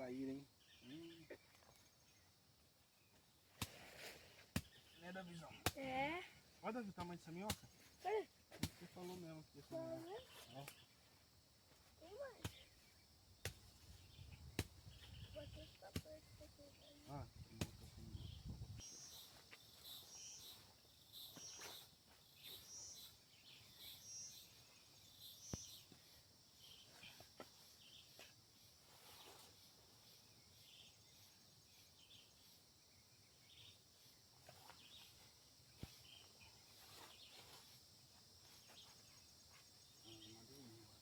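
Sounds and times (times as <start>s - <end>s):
insects trilling: 0.0s - 41.0s
short high insect calls: 7.4s - 41.0s.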